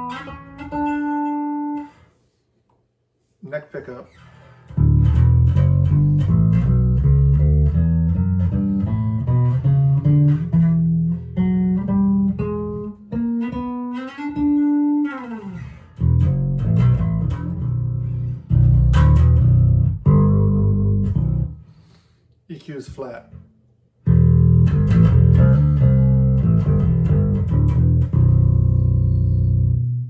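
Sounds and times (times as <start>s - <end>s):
electric bass plucked notes: 0.0s - 1.8s, 4.7s - 21.7s, 24.0s - 30.0s.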